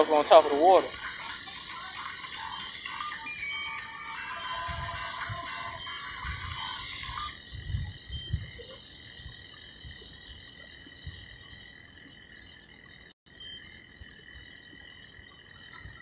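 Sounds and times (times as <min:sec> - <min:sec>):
frogs calling: 0:00.0 - 0:16.0.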